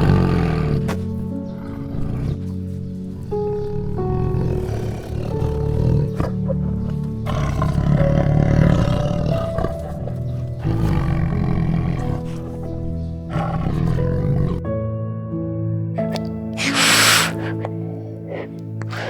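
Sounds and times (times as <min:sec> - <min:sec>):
large animal rough calls: 0:00.0 - 0:14.6, 0:16.0 - 0:19.0
music with sustained notes: 0:00.0 - 0:19.0.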